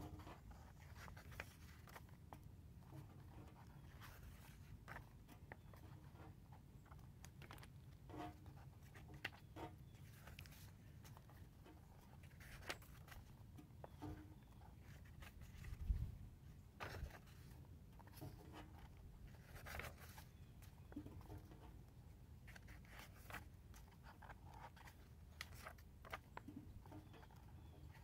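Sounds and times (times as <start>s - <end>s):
page turned with soft thump: 0.0s - 13.3s, 13.9s - 15.9s, 16.8s - 20.3s, 22.4s - 27.3s
paper pages rustling: 0.1s - 7.8s, 8.4s - 9.4s, 10.0s - 13.4s, 14.0s - 21.4s, 22.4s - 28.0s.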